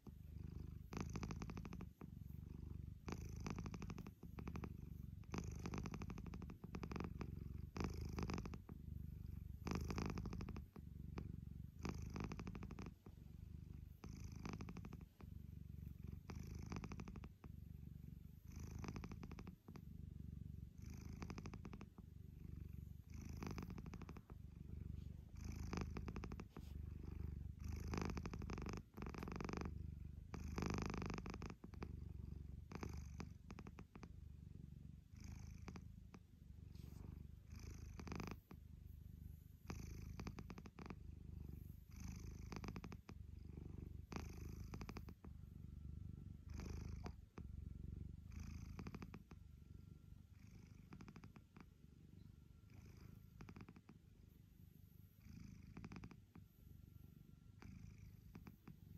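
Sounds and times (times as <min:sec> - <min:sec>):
cat purring loudly: 0:00.0 - 0:54.4, 0:55.1 - 0:58.9.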